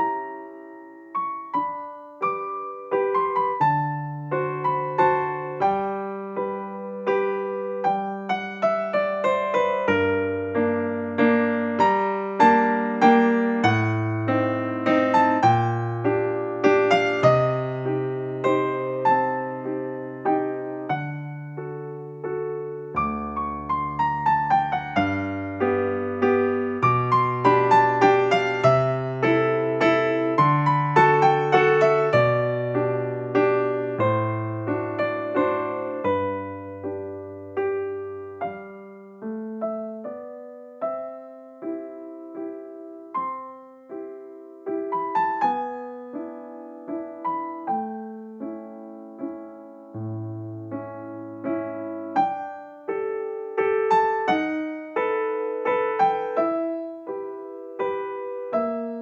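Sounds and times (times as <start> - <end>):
gentle piano tune: 0.0 - 59.0.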